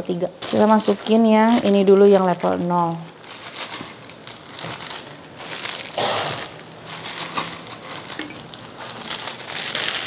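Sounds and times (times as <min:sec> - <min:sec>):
plastic sachets crinkling: 0:00.0 - 0:10.0.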